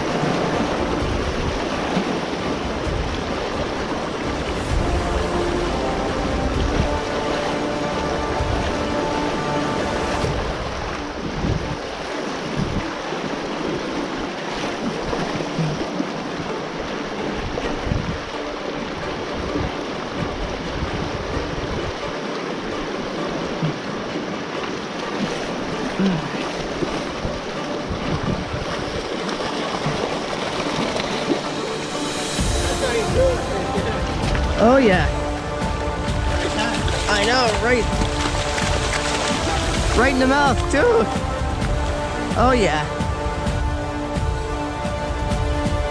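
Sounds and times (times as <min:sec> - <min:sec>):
wind on microphone: 0:00.0 - 0:13.8, 0:17.2 - 0:22.2, 0:26.0 - 0:45.9
creek water rushing: 0:00.0 - 0:45.9.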